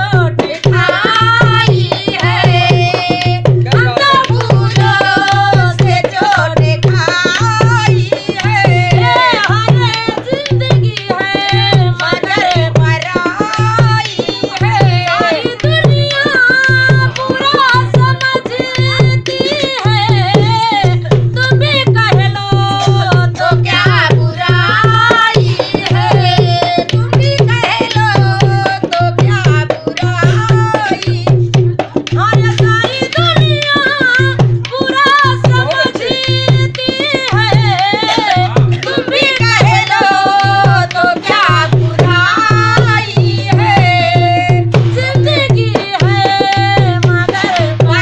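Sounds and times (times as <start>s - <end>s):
woman singing: 0.0s - 48.0s.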